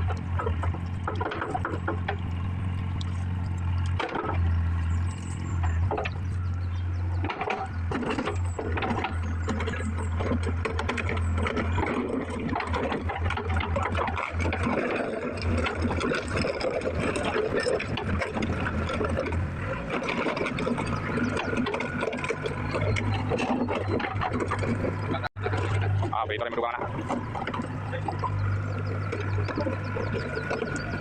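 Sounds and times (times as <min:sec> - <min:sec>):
clicks knocks and clatter: 0:00.0 - 0:31.0.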